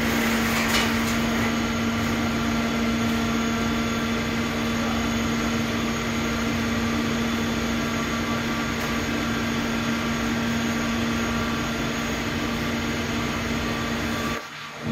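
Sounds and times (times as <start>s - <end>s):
hydraulic motor and pump hum: 0.0s - 14.9s.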